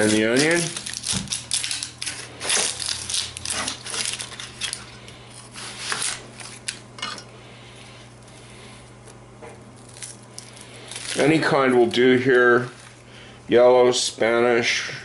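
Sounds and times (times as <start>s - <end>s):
onion skin rustling: 0.0s - 6.8s, 7.6s - 13.6s.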